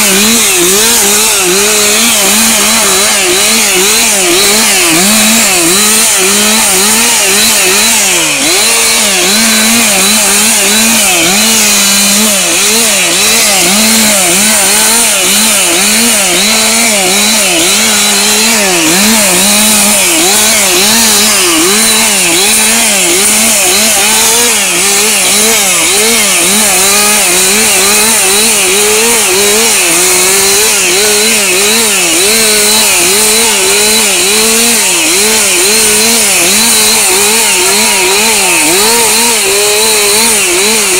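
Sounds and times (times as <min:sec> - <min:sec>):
chainsaw cutting branches: 0:00.0 - 0:40.9.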